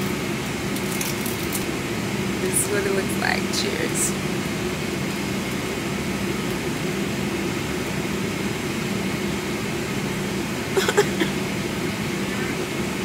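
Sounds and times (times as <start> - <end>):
cabin air conditioning drone: 0.0 - 13.0.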